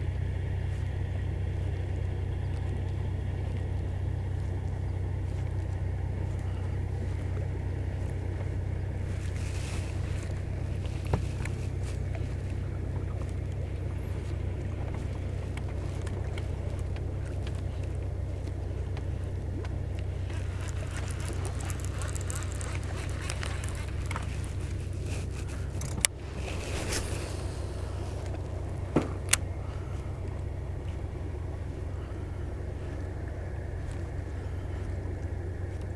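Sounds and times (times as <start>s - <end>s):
boat motor humming: 0.0s - 35.9s.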